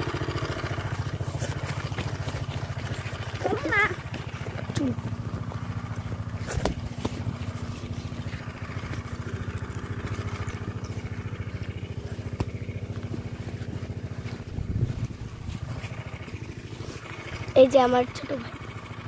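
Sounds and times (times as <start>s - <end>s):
engine running with fast throb: 0.0s - 19.0s.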